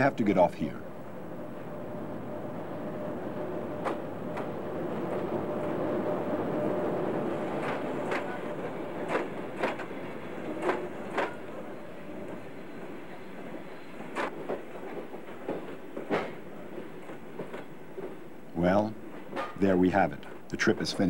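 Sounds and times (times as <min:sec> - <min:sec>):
train rumbling on rails: 0:00.0 - 0:21.0
wheels clacking over rail joints: 0:03.4 - 0:21.0.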